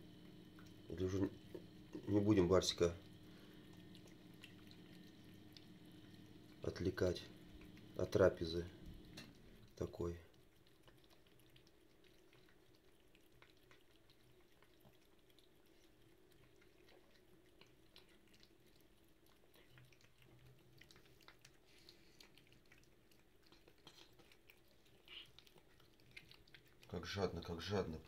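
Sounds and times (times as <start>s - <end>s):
cat chewing and smacking: 0.0s - 28.0s
low room hum: 0.0s - 28.0s.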